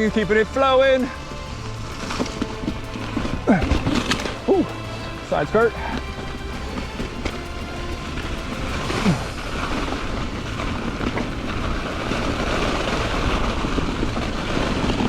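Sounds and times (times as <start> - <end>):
bike tyres on dirt and leaves: 0.0 - 15.0
wind rushing over microphone: 0.0 - 15.0.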